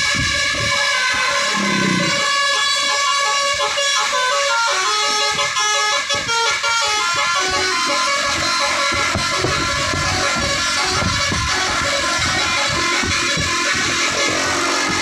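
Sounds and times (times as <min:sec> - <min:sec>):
multi-tone bus horn playing tune: 0:00.0 - 0:15.0.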